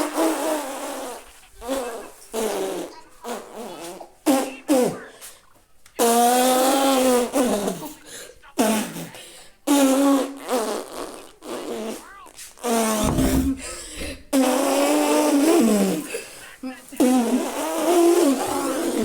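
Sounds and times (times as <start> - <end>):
fart sounds: 0.0 - 5.0, 6.0 - 7.8, 9.7 - 16.1, 17.0 - 19.0.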